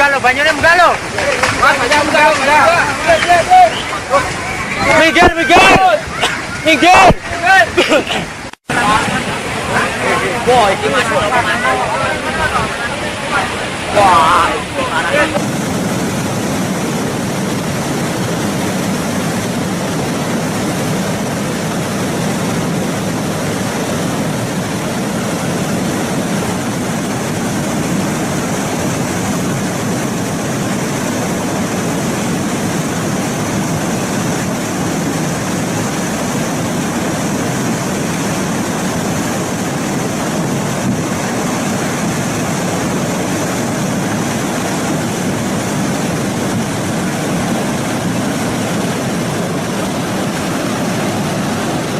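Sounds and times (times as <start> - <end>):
rushing flood torrent: 0.0 - 51.9.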